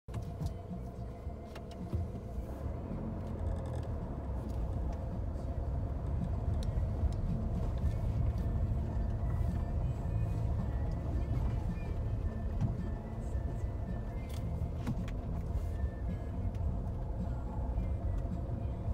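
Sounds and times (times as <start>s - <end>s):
car engine and road rumble: 0.0s - 18.9s.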